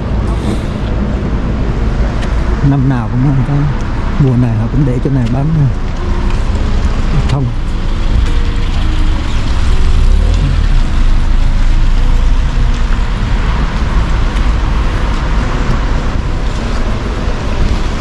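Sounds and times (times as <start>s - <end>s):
low rumble: 0.0s - 18.0s
tyres hissing on wet paving: 0.0s - 18.0s.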